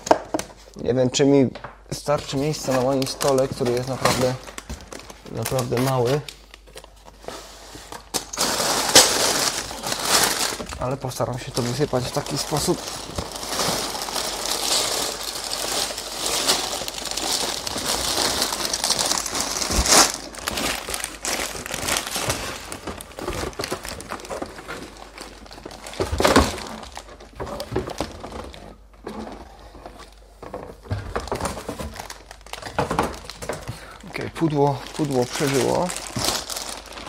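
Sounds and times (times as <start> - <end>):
plastic bags crinkling: 2.0 - 37.0.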